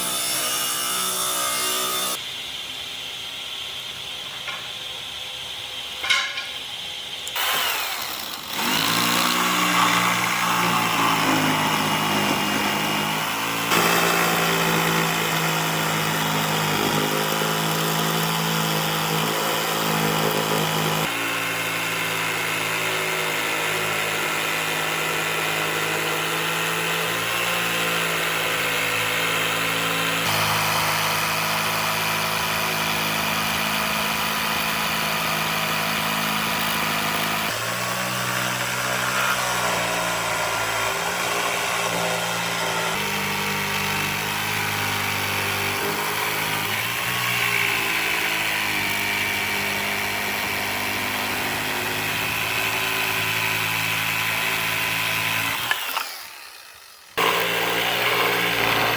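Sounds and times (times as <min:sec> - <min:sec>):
power tool motor running: 0:00.0 - 0:58.9.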